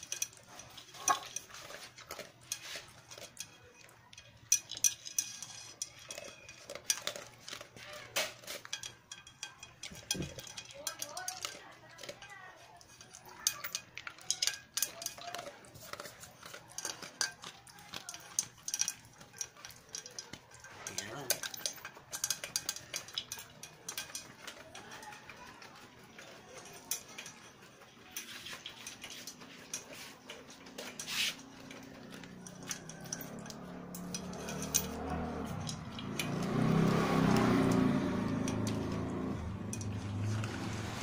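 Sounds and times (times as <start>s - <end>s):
dog crunching kibble: 0.0s - 41.0s.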